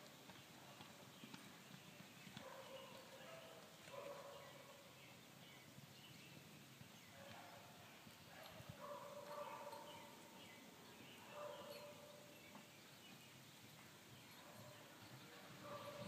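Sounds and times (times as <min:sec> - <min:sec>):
distant horses galloping: 0:00.0 - 0:16.0.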